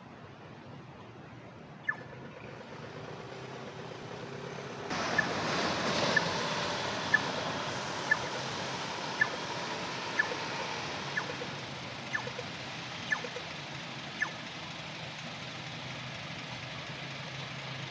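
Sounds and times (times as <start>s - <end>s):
bus engine noise: 0.0s - 17.9s.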